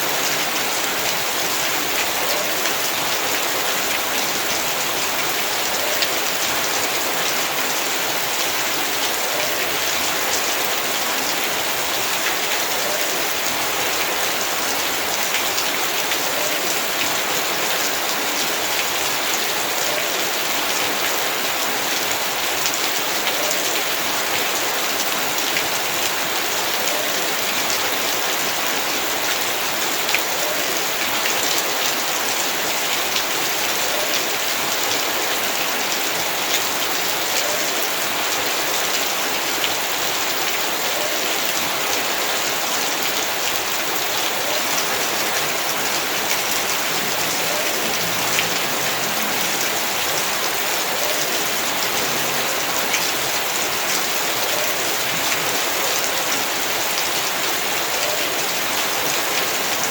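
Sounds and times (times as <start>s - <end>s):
heavy rain: 0.0s - 59.9s
raindrops pattering on surfaces: 0.0s - 59.9s.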